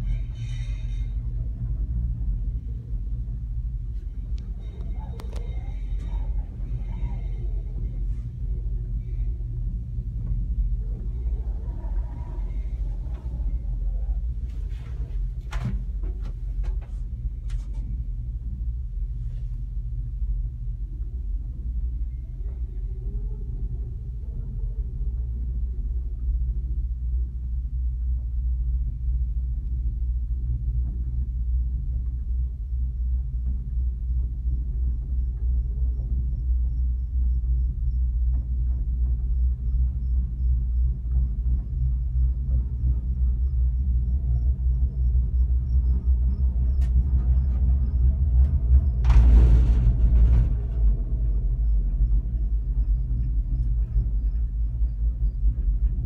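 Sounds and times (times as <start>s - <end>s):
gondola cabin rumble: 0.0s - 56.0s.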